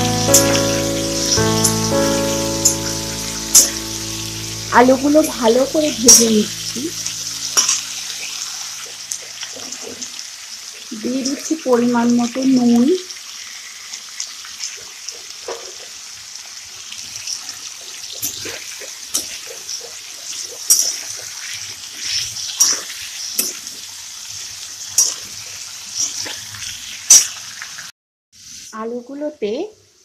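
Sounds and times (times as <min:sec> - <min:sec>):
potatoes sizzling in oil: 0:00.0 - 0:30.0.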